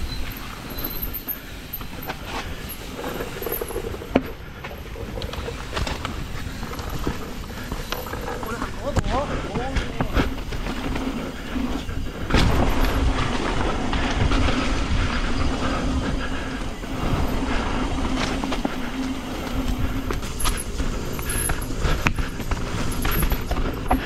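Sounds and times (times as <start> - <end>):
bike rattling and knocking: 0.0 - 24.0
steady hum: 0.0 - 24.0
tyres rumbling over dirt: 0.0 - 24.0.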